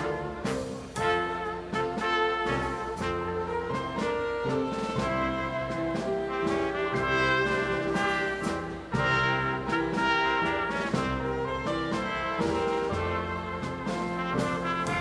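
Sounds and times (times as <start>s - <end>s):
dance band playing a tango: 0.0s - 15.0s
trumpets and trombones: 0.0s - 15.0s.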